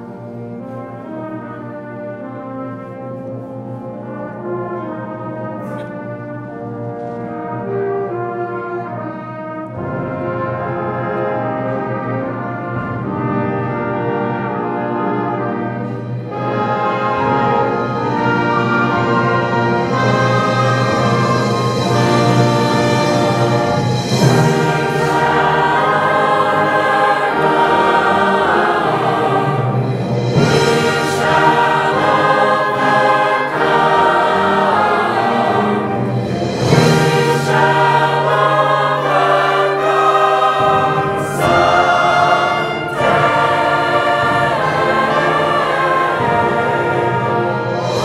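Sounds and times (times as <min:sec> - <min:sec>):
choir singing with instruments: 0:00.0 - 0:48.0.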